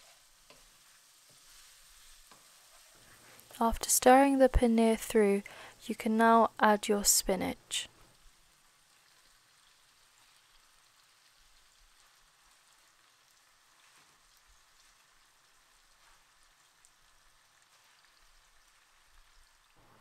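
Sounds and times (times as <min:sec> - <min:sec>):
faint sizzling in frying pan: 0:00.0 - 0:20.0.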